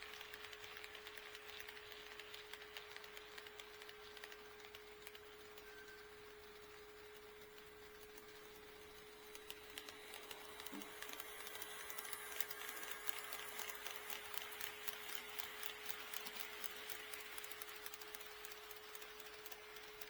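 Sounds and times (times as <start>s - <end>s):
model train wheels clicking: 0.0s - 20.0s.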